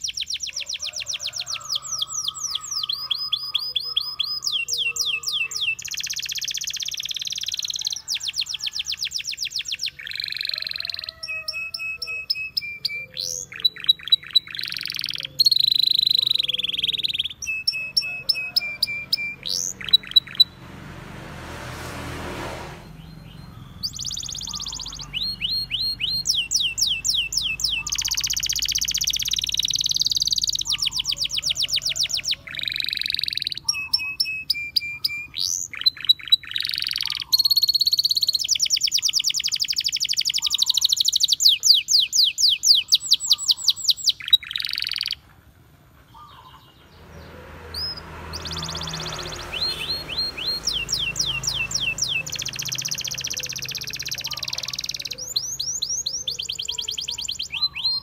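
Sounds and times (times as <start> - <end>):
canary singing trills and chirps: 0.0 - 20.6, 22.8 - 45.5, 46.1 - 58.0.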